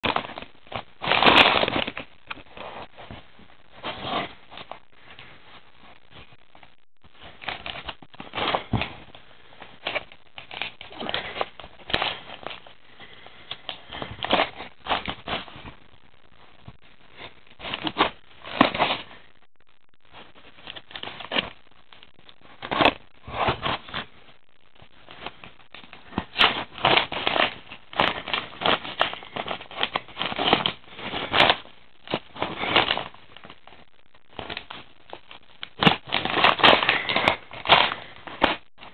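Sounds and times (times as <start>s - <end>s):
paper mailer crinkling and tearing: 0.0s - 16.0s, 16.7s - 19.3s, 20.0s - 38.9s.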